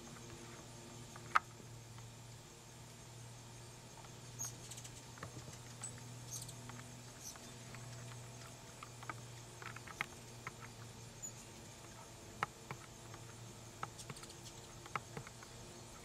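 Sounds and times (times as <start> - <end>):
hummingbirds chipping: 0.0 - 16.0.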